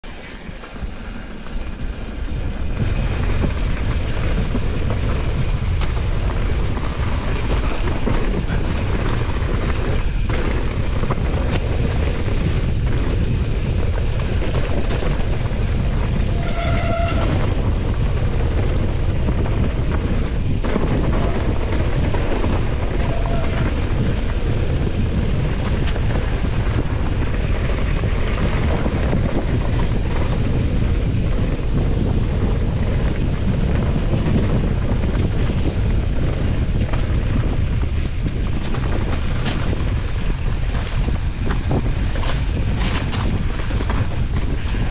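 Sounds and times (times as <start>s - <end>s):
low rumble and rattle: 0.0s - 44.9s
wind on microphone: 0.0s - 44.9s.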